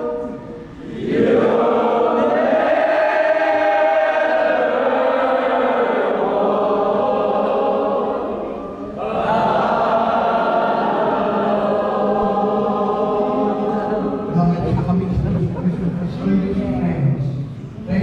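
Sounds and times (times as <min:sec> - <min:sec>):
group singing in unison: 0:00.0 - 0:16.0.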